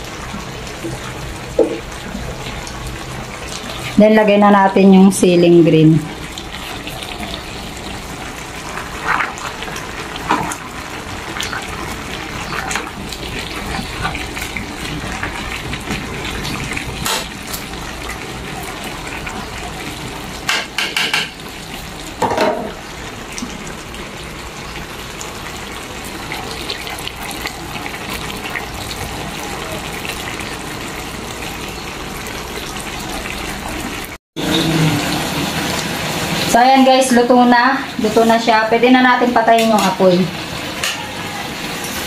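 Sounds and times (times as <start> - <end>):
food simmering in a wok: 0.0 - 4.2, 6.0 - 42.0.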